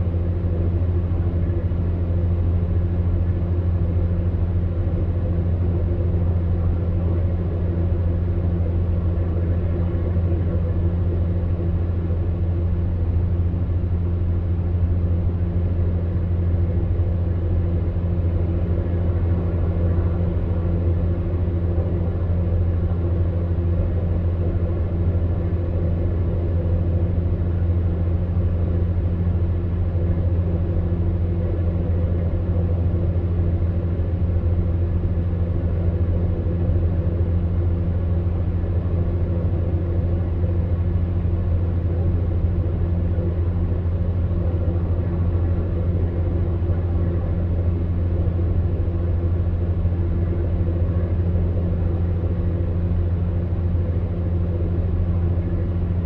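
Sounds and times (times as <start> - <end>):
fan heater humming: 0.0 - 56.0.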